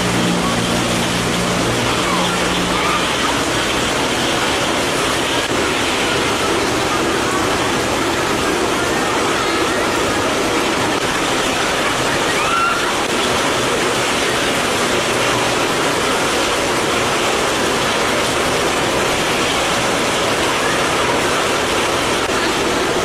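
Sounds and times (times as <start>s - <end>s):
heavy rain on wet pavement: 0.0s - 23.0s.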